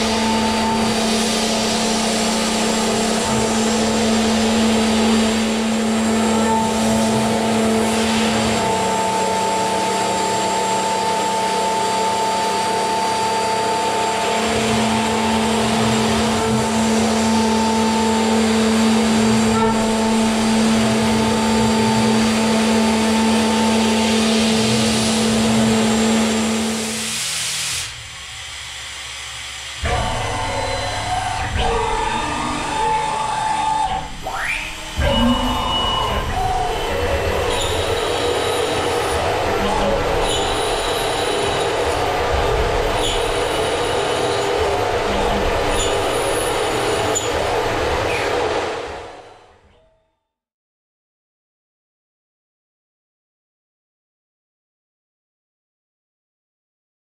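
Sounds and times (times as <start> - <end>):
milling spindle whine: 0.0 - 27.1, 29.4 - 49.3.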